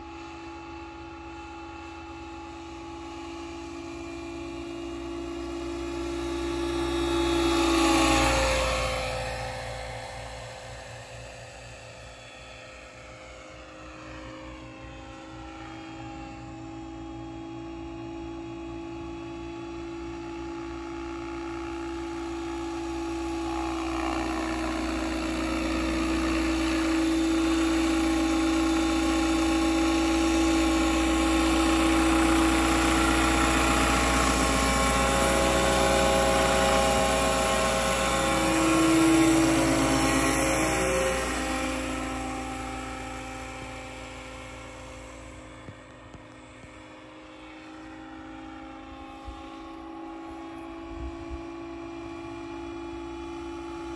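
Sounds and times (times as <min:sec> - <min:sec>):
model helicopter rotor whine: 0:00.0 - 0:53.9.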